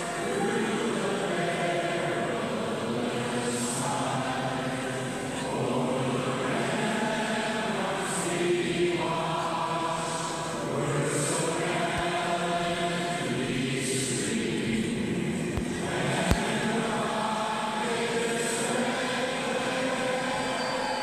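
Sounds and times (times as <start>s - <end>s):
anthem sung slowly: 0.0s - 21.0s.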